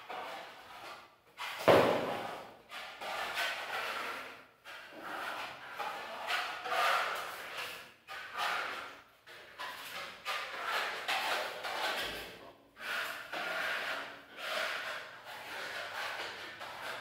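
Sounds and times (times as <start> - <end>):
trowels scraping a wall: 0.0 - 17.0.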